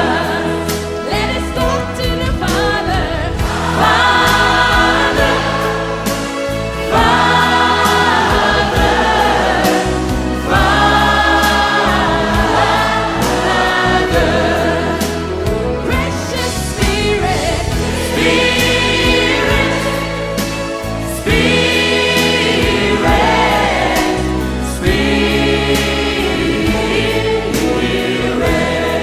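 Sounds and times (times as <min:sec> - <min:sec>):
choir singing held notes: 0:00.0 - 0:29.0
steady bass: 0:00.0 - 0:29.0.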